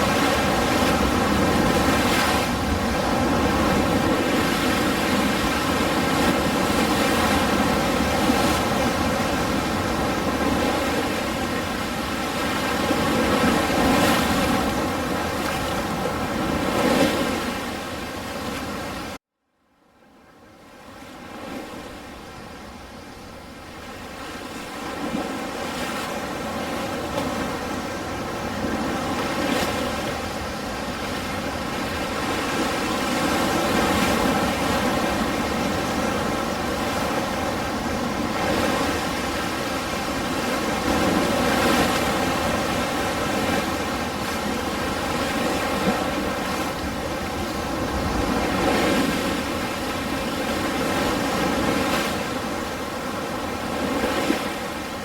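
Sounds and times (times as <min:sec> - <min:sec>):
ocean waves washing in: 0:00.0 - 0:19.2, 0:20.3 - 0:55.0.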